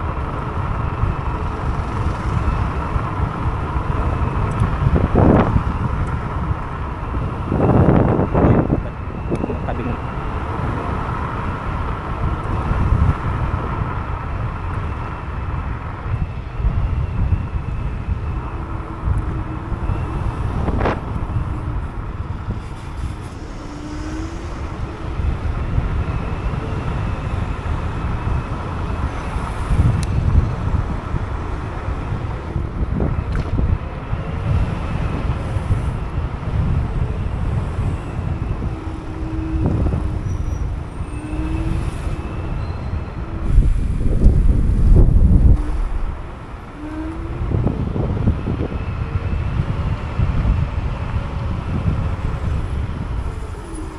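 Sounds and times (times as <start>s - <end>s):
high whine: 0.0s - 50.0s
electric scooter road noise: 0.0s - 53.9s
wind rumbling on microphone: 0.0s - 53.9s.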